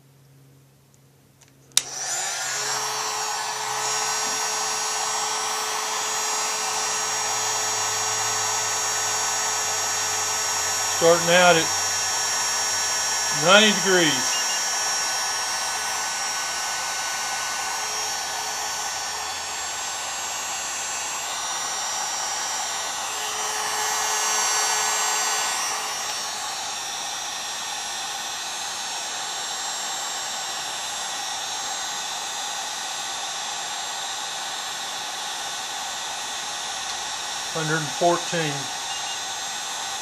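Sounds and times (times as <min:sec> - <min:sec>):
heat gun blowing: 0:01.8 - 0:40.0.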